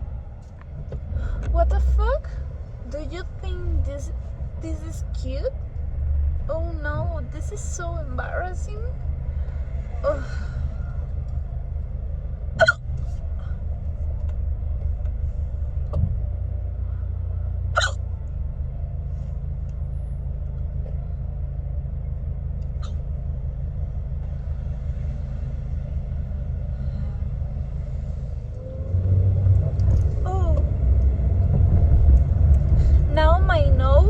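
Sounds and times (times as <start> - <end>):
car cabin rumble: 0.0 - 34.0.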